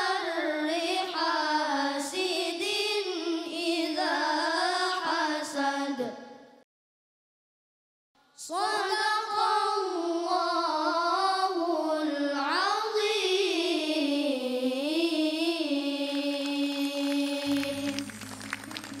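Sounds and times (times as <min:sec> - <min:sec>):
boys chanting recitation: 0:00.0 - 0:06.2, 0:08.4 - 0:18.0.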